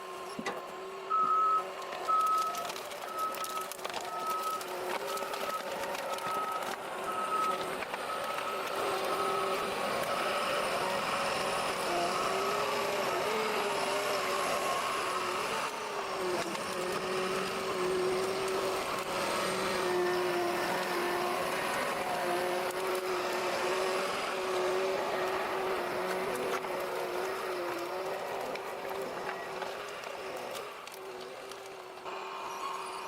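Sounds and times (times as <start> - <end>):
heavy diesel engine whine: 0.0 - 33.0.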